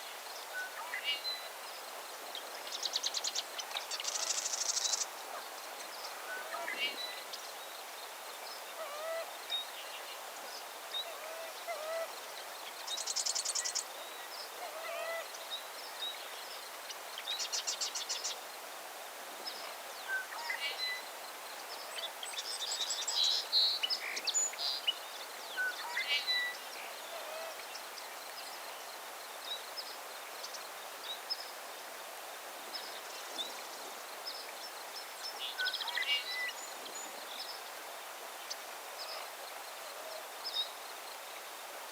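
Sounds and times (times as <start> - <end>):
steady background hiss: 0.0 - 41.9.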